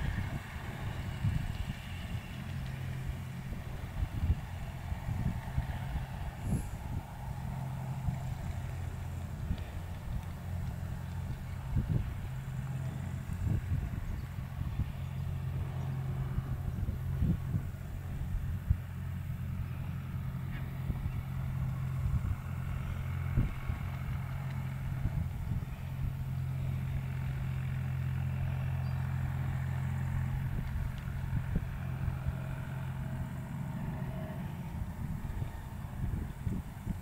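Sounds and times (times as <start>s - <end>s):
engine humming: 0.0s - 37.0s.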